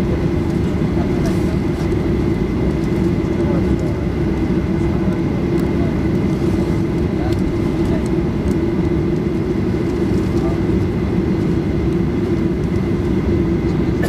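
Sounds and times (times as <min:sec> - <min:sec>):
jet cabin drone with whine: 0:00.0 - 0:14.0.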